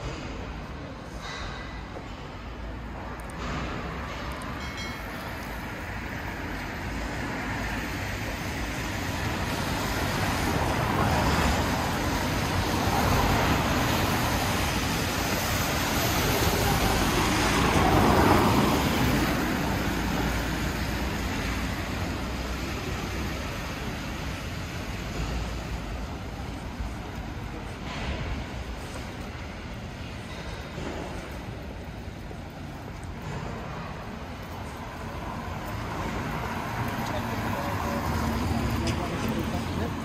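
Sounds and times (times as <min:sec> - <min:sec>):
general traffic: 0:00.0 - 0:40.0.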